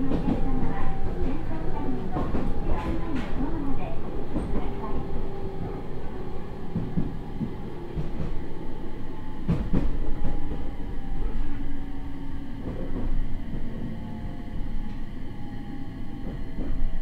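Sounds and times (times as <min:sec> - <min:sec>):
train wheel and track noise: 0:00.0 - 0:17.0.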